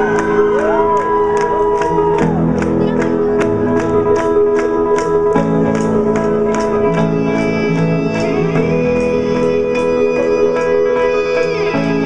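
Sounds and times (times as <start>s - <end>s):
live rock band music: 0.0s - 12.0s.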